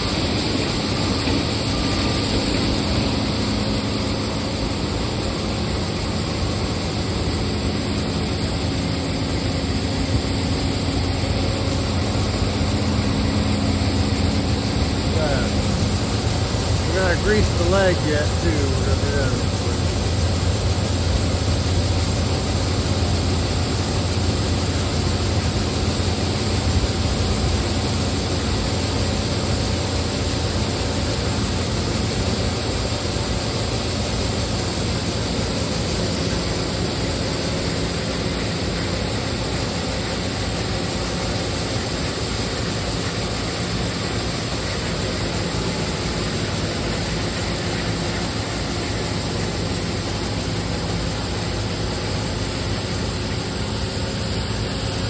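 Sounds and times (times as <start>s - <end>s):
grain-handling machinery droning: 0.0s - 55.0s.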